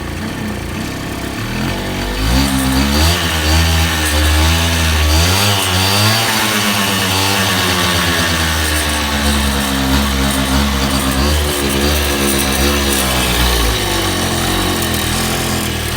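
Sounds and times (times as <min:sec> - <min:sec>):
scooter engine revving: 0:00.0 - 0:15.9.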